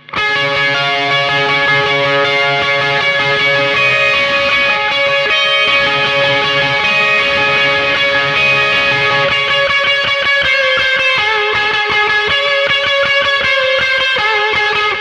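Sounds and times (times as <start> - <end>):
electric guitar with reverb: 0.0 - 15.0.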